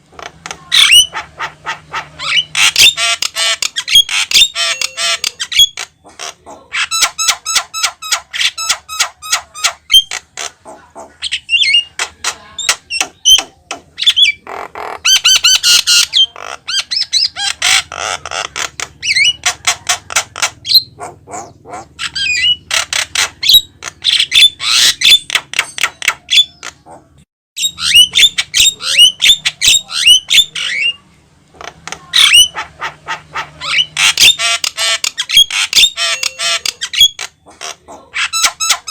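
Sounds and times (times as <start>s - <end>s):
myna bird squawking and whistling: 0.6s - 31.0s, 32.0s - 38.9s.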